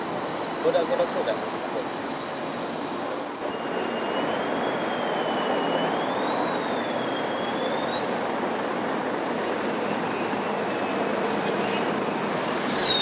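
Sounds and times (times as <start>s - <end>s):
jet engine roar with whine: 0.0s - 13.0s.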